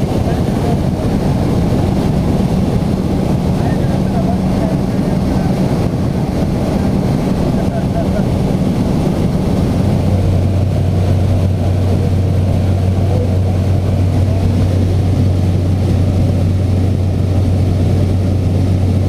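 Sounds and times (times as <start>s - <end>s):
plane engine and propeller droning: 0.0s - 19.0s.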